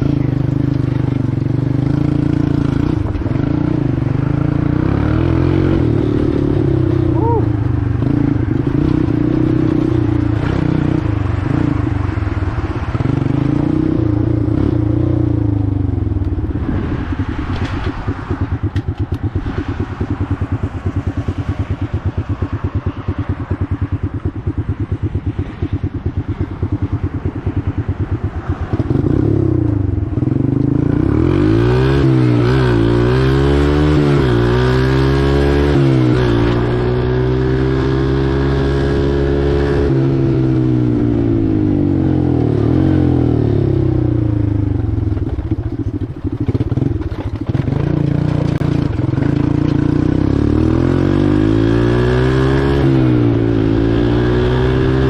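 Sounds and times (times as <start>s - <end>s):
atv engine running and accelerating: 0.0s - 55.0s.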